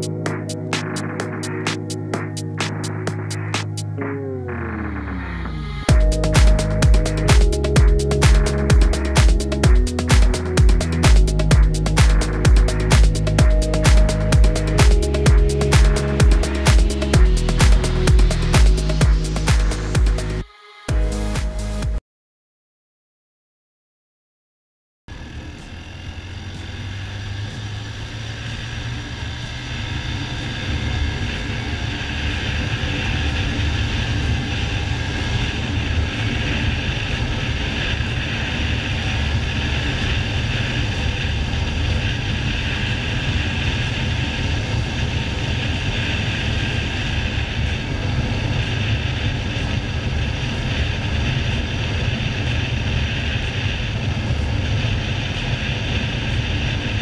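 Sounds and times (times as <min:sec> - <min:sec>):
motorcycle engine running hard: 0:02.7 - 0:20.4, 0:25.1 - 0:57.0.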